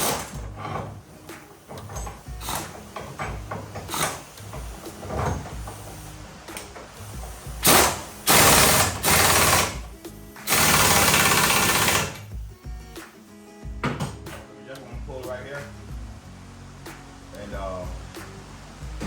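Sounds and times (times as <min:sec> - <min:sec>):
mig welder crackling: 0:00.0 - 0:13.3, 0:14.3 - 0:19.0.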